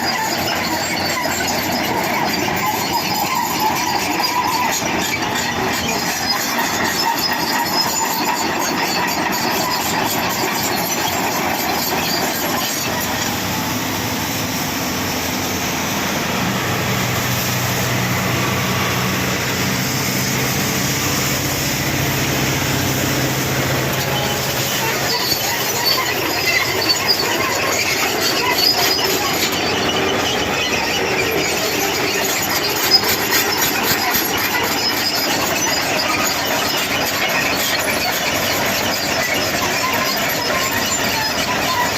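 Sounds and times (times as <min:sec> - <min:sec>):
excavator engine running: 0:00.0 - 0:41.9
excavator tracks squealing and grinding: 0:00.0 - 0:41.9.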